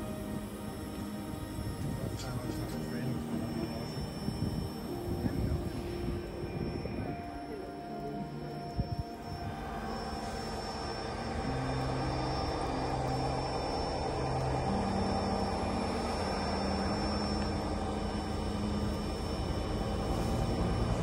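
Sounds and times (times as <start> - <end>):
low droning hum: 0.0 - 21.0
train rumble: 0.0 - 21.0.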